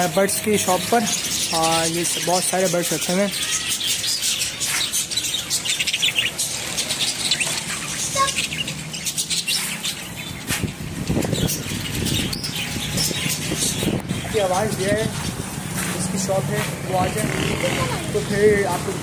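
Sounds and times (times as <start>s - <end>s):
budgerigars chattering and chirping: 0.0s - 19.0s.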